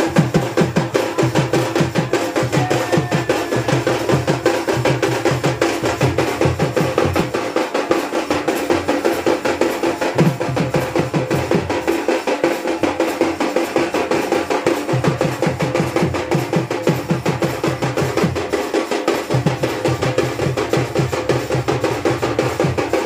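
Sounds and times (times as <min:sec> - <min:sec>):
drums playing fast rhythm: 0:00.0 - 0:23.0.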